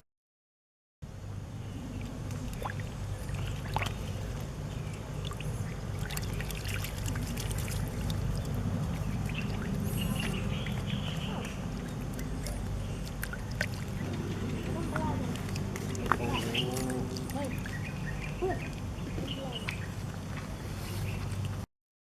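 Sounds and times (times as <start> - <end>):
steady low rumble: 1.1 - 21.6
muddy water sloshing: 1.2 - 21.6
small splashes and clicks: 2.0 - 21.6.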